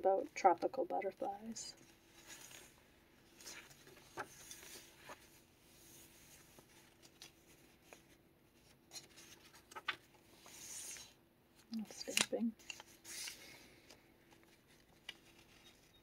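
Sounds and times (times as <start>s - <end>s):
paper pages turning: 1.8s - 16.0s.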